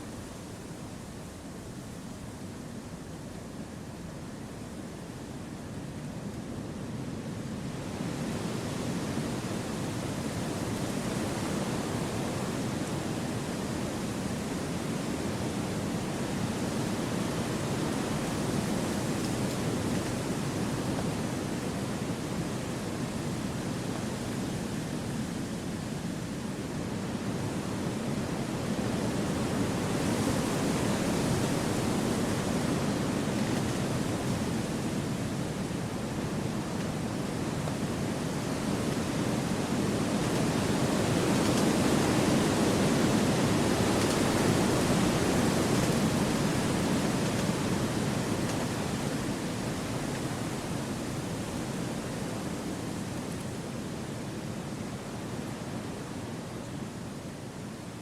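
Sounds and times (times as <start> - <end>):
wind rushing through trees: 0.0 - 58.0.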